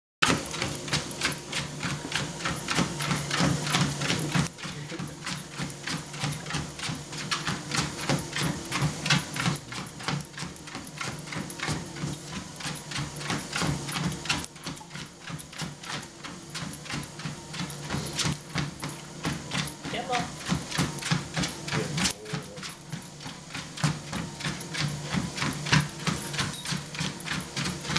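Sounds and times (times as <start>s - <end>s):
dog paws on treadmill belt: 0.2s - 27.9s
treadmill motor hum: 0.2s - 27.9s.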